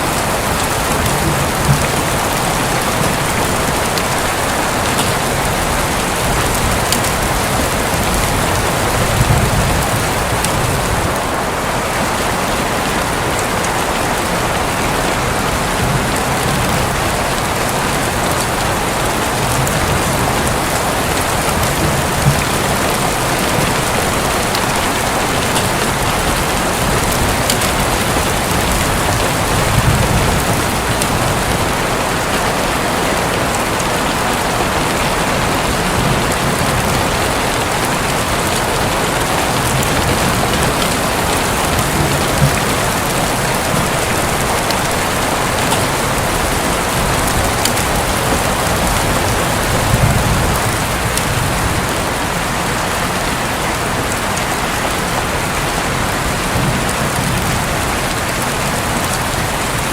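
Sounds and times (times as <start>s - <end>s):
heavy rain drumming on a roof: 0.0s - 59.9s.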